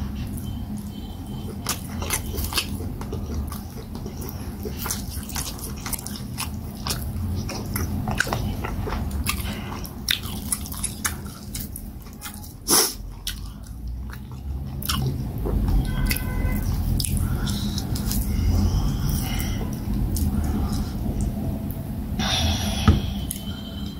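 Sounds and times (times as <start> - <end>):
chewing and wet mouth sounds: 0.0 - 21.8.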